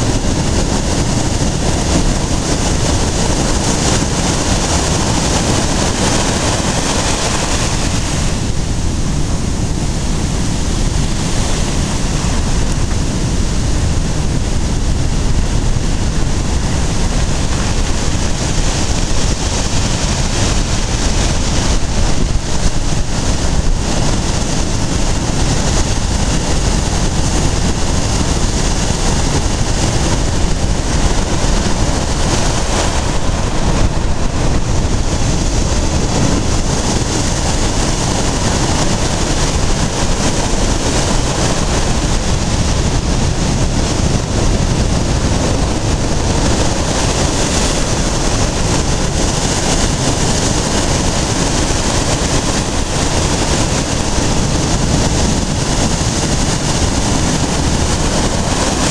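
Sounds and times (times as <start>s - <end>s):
waves breaking on beach: 0.0s - 58.9s
wind buffeting microphone: 0.0s - 58.9s.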